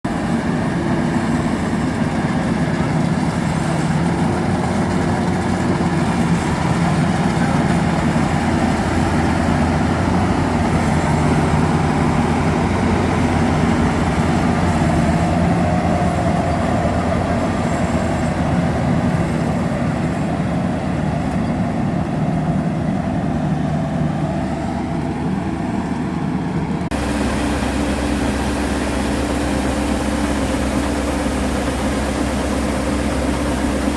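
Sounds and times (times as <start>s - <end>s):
harvesting machine droning: 0.0s - 33.9s.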